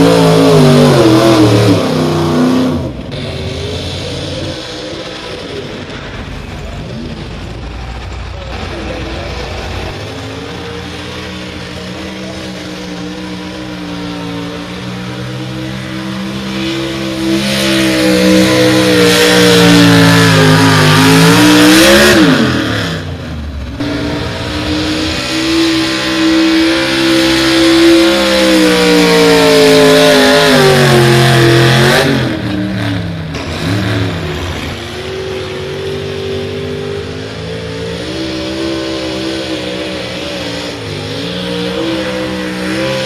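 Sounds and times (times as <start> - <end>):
pulling truck engine at full throttle: 0.0 - 43.0.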